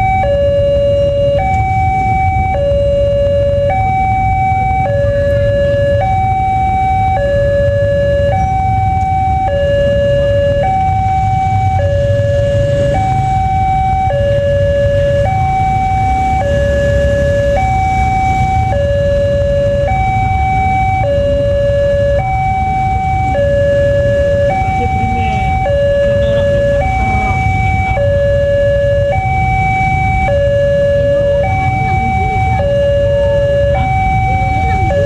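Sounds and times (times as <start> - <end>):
two-tone warning siren: 0.0 - 35.0.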